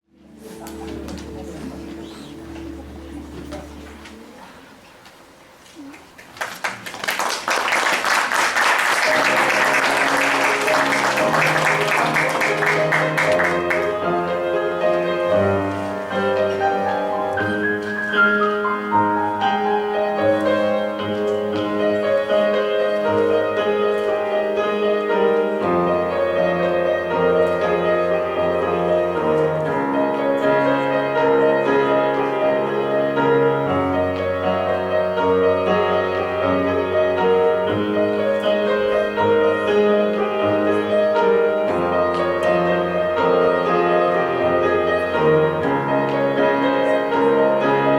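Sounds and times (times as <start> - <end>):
solo piano piece: 0.0 - 5.9, 8.4 - 47.9.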